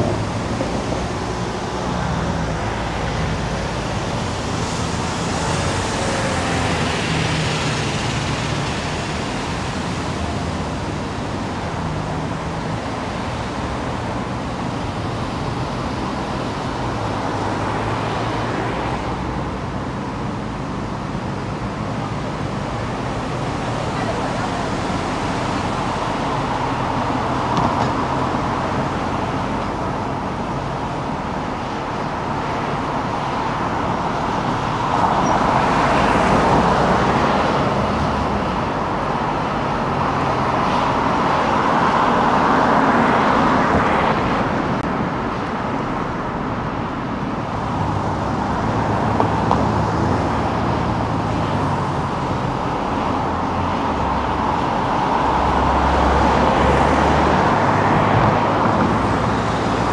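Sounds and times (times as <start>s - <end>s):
tyre and road noise: 0.0s - 59.9s.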